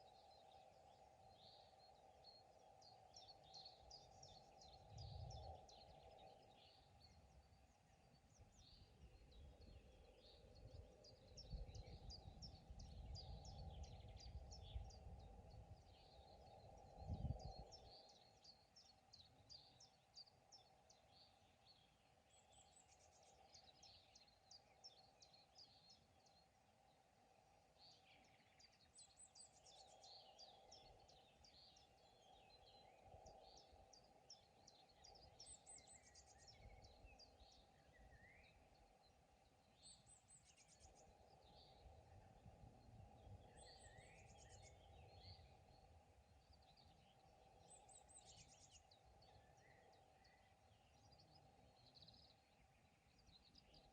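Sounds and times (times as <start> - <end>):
faint pond background: 0.0 - 53.9
small birds chirping and trilling: 0.0 - 53.9.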